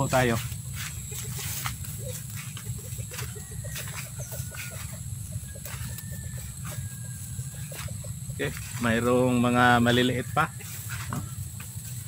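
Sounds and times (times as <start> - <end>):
chickens clucking: 0.0 - 12.0
footsteps on dry soil: 0.0 - 12.0.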